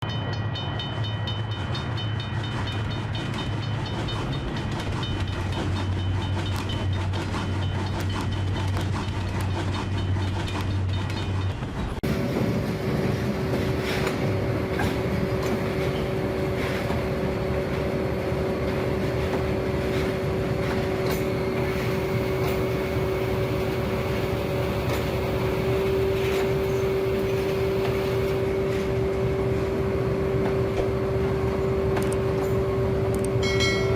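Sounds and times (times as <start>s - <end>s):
train engine hum: 0.0s - 33.9s
wheels clacking over rails: 0.1s - 33.9s.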